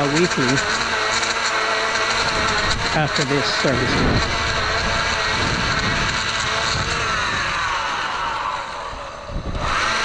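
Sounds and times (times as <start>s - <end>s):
edger motor whine: 0.0s - 10.0s.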